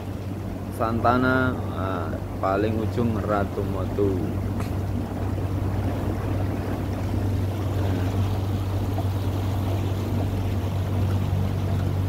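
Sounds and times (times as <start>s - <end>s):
boat motor droning: 0.0s - 12.0s
water rushing along hull: 0.0s - 12.0s.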